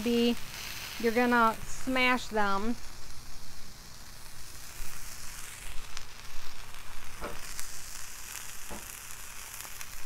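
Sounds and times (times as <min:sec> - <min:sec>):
meat sizzling on a griddle: 0:00.0 - 0:10.0.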